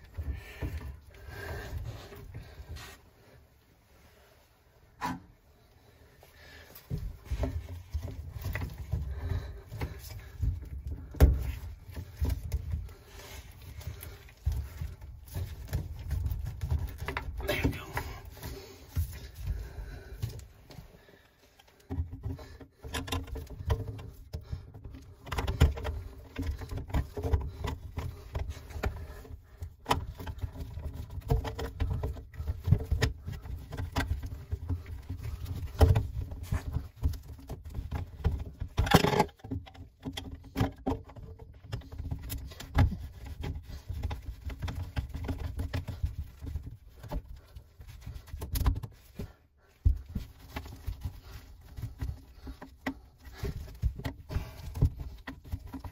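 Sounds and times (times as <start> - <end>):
plastic pipe fittings scraping: 0.0 - 4.0, 4.8 - 55.9.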